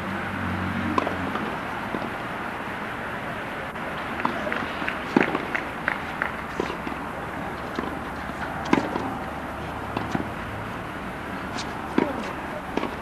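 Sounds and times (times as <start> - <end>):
steady background hiss: 0.0 - 13.0
tennis balls struck by rackets: 0.8 - 2.2, 3.3 - 13.0.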